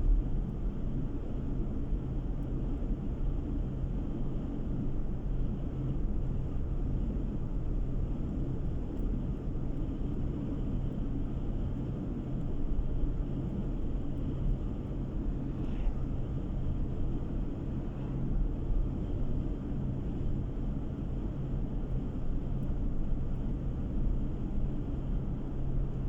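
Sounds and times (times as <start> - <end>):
constant low hum: 0.0 - 26.0.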